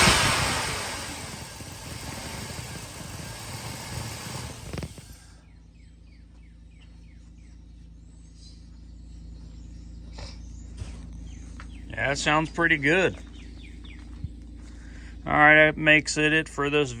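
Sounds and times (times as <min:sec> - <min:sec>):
truck engine idling: 0:00.0 - 0:08.2, 0:08.9 - 0:16.8.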